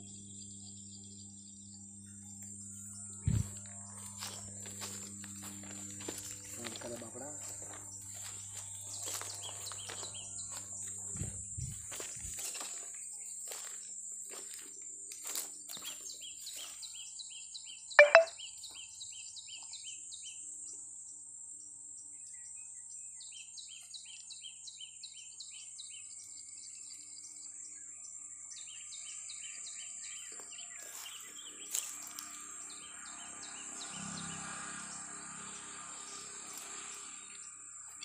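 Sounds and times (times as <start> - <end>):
insects buzzing: 0.0 - 38.0
songbird chirping: 0.4 - 20.0, 23.5 - 38.0.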